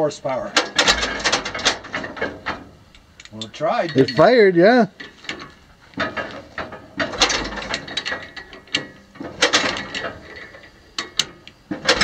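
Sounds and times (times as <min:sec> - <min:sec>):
hand crank turning engine over: 0:00.6 - 0:04.4, 0:05.0 - 0:12.0.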